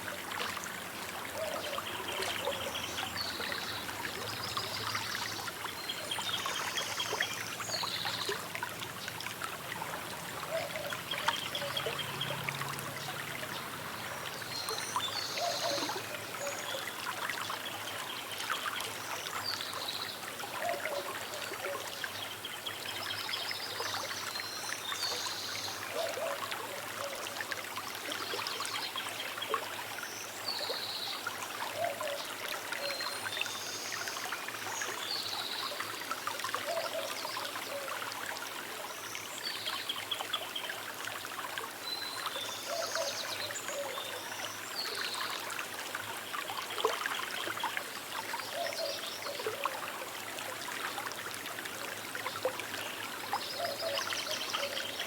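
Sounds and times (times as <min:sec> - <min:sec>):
river trickling over stones: 0:00.0 - 0:55.0.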